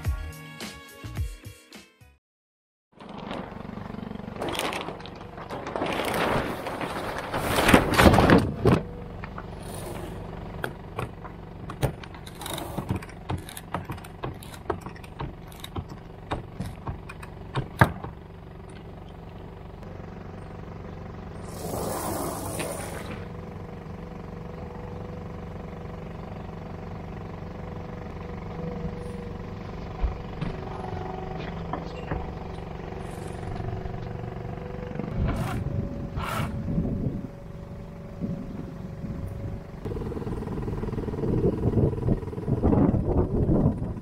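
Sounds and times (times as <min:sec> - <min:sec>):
outboard motor running: 0:03.0 - 0:44.0.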